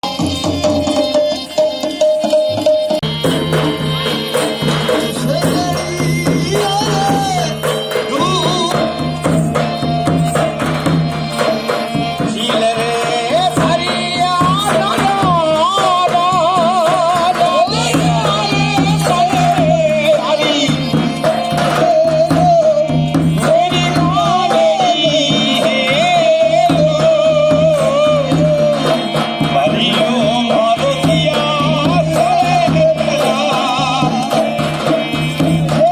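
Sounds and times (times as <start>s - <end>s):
drum and percussion strokes: 0.0s - 35.9s
person singing ornamented melody: 0.0s - 35.9s.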